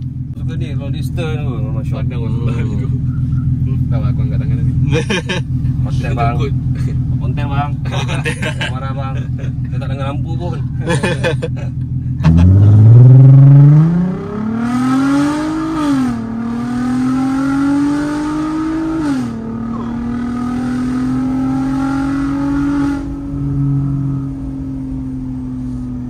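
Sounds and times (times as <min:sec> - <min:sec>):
car engine accelerating with upshifts: 0:00.0 - 0:26.0.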